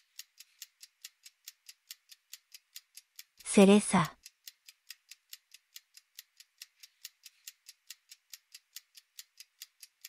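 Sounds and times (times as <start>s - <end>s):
rapid timer ticking: 0.0s - 10.0s.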